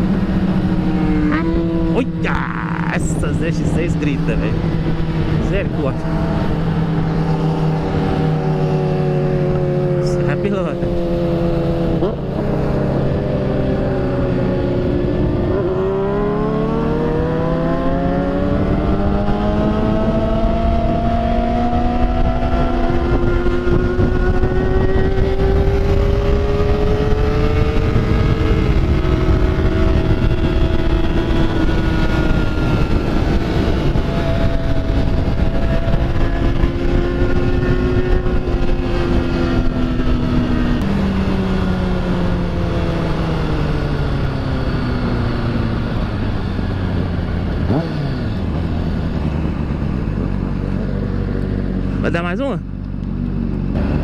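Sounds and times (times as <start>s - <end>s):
wind rushing: 0.0s - 52.0s
motorcycle engine revving: 0.0s - 54.0s.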